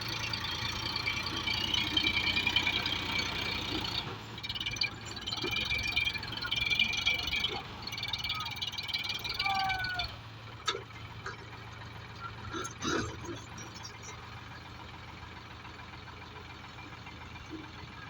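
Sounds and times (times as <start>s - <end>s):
pulsing animal chorus: 0.0s - 14.8s.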